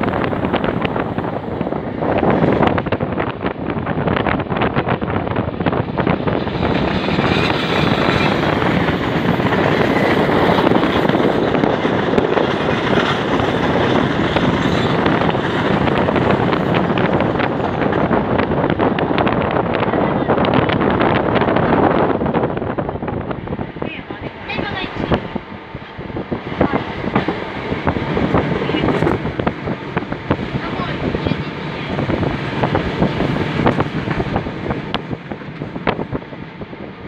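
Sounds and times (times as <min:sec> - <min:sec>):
train wheel and rail noise: 0:00.0 - 0:37.0
wind rush on microphone: 0:00.0 - 0:37.0.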